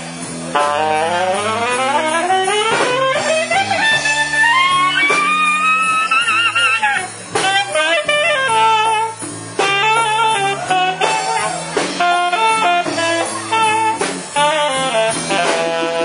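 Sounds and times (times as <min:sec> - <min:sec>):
guitar and bass backing: 0:00.0 - 0:16.0
saxophone blues solo: 0:00.0 - 0:16.0.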